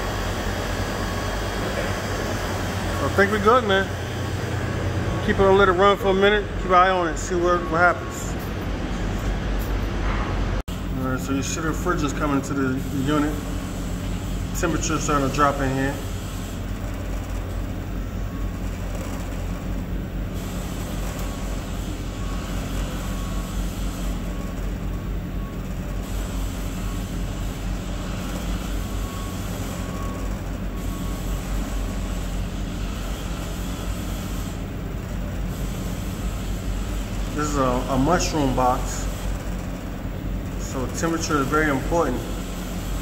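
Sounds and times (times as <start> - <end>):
refrigeration unit fan rushing: 0.0 - 43.0.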